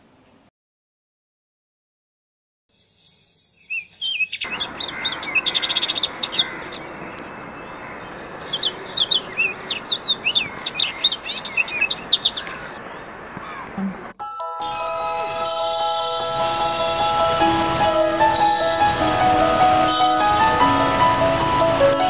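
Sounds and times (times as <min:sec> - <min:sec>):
birds chirping: 0:02.7 - 0:22.0.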